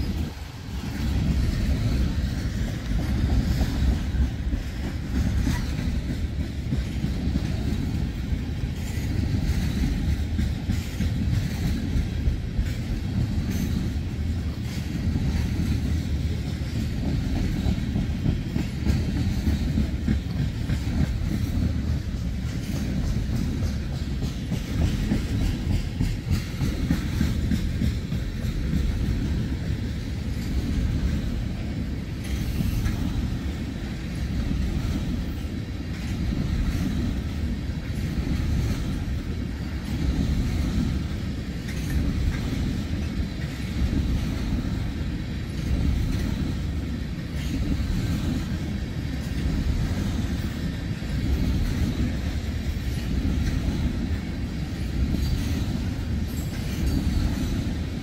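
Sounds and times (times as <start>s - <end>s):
freight train rumbling past: 0.0s - 58.0s
wheels clicking over rail joints: 0.0s - 58.0s.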